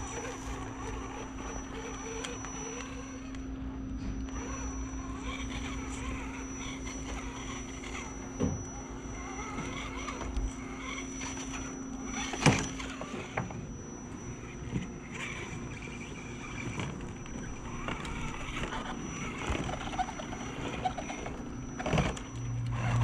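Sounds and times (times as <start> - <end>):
electric motor whining: 0.0 - 23.0
steady low hum: 0.0 - 23.0.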